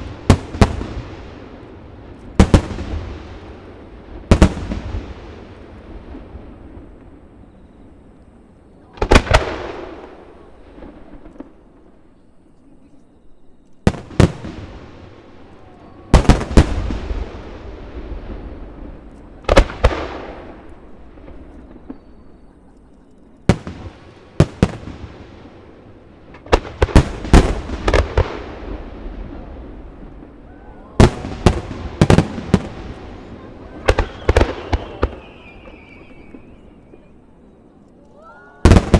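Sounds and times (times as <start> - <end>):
firework shells booming: 0.0 - 12.4, 13.5 - 37.7, 38.6 - 38.9.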